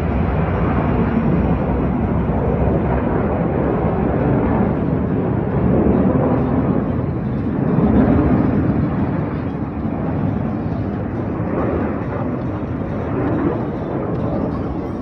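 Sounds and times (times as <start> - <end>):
jet aircraft roaring overhead: 0.0 - 15.0.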